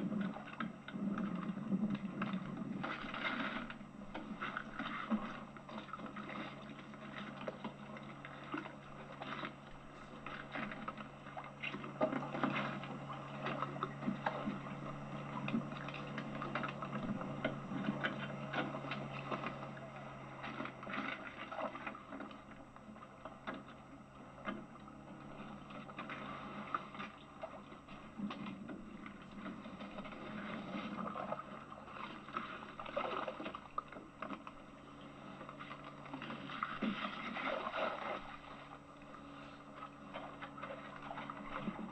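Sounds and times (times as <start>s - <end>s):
short splashes and knocks: 0.0s - 41.9s
steady low hum: 0.0s - 41.9s
water slapping against boat hull: 0.0s - 41.9s.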